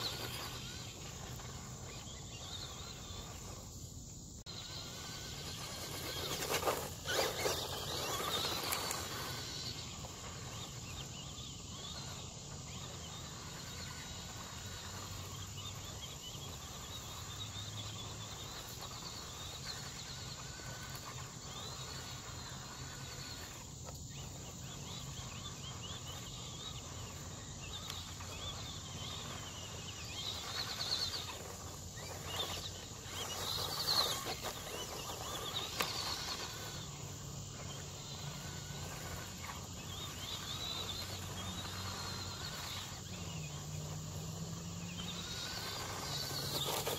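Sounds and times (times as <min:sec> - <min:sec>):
electric motor whine: 0:00.0 - 0:46.9
outdoor background noise: 0:00.0 - 0:46.9
tyre noise on dirt: 0:00.0 - 0:46.9.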